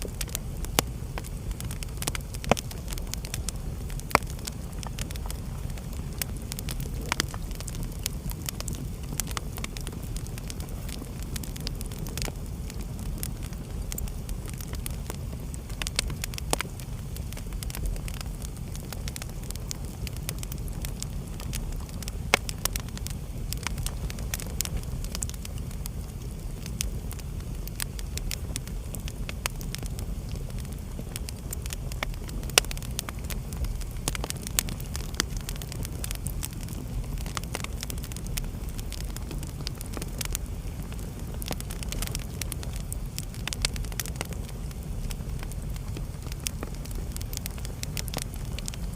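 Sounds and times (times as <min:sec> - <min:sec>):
fire crackling in a fireplace: 0:00.0 - 0:48.9.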